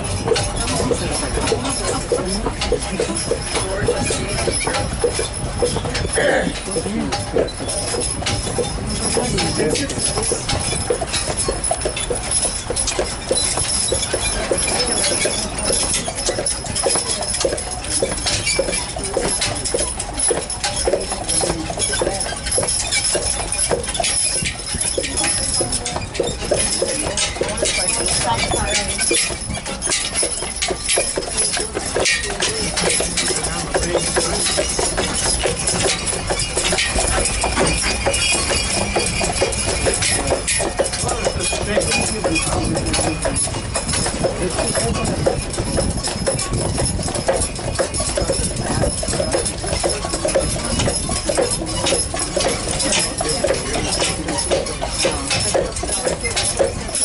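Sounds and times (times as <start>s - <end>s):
horse hooves on paved street: 0.0s - 57.0s.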